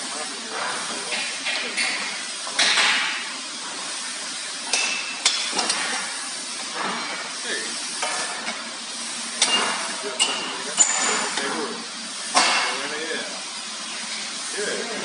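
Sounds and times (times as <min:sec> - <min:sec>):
workshop noise hiss: 0:00.0 - 0:15.0.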